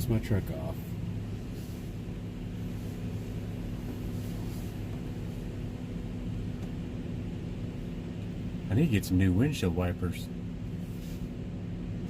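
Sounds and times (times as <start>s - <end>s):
heater fan humming: 0.0s - 12.0s.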